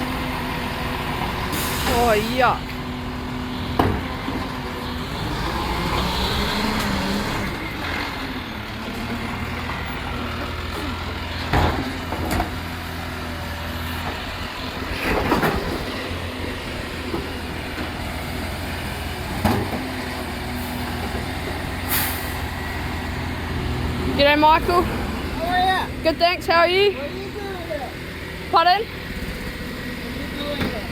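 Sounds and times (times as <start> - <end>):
diesel truck engine running: 0.0 - 30.9.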